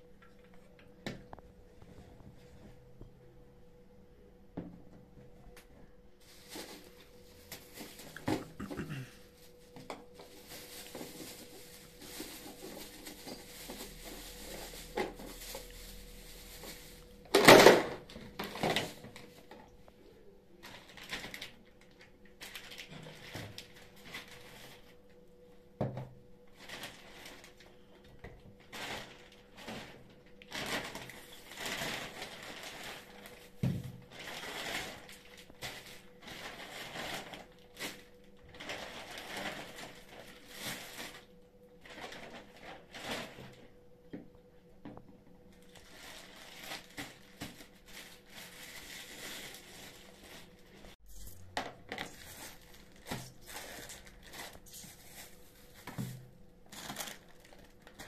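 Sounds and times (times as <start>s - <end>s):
plastic bags rustling: 6.2s - 19.7s, 20.6s - 25.0s, 26.5s - 43.8s, 45.5s - 58.0s.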